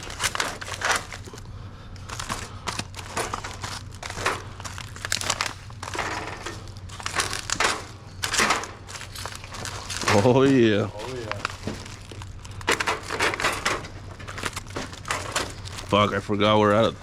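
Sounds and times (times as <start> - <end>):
plastic packaging crinkling: 0.0 - 17.0
steady low hum: 0.0 - 17.0.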